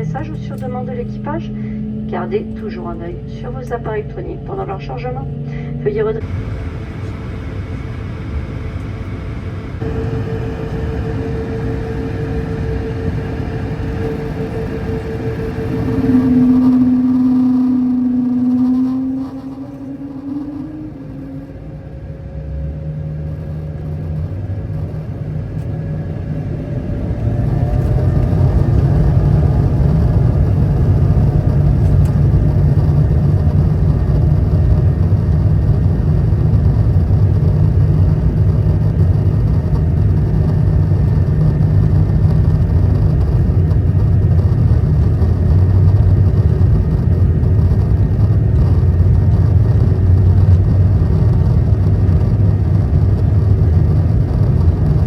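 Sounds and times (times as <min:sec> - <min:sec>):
jet engines spooling up: 0:00.0 - 0:55.0
low rumble of takeoff roll: 0:00.0 - 0:55.0.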